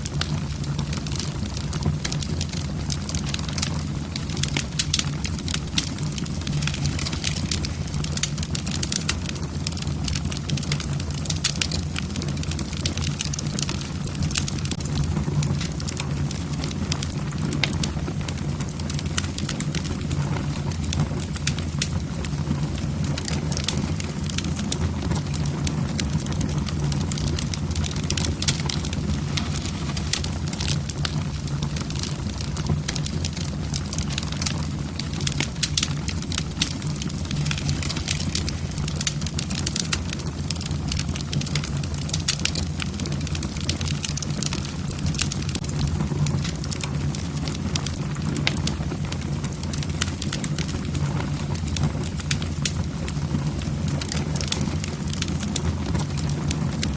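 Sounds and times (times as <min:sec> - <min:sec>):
logs crackling and popping: 0:00.0 - 0:56.9
low rumble of flames: 0:00.0 - 0:56.9.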